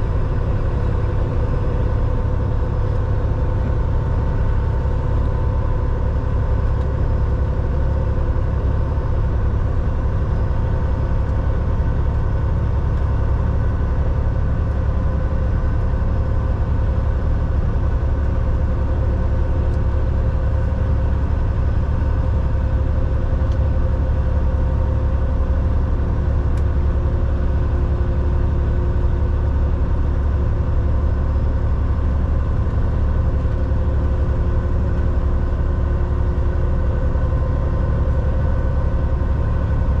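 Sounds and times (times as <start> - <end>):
constant hum: 0.0 - 40.0
truck diesel engine and road rumble: 0.0 - 40.0.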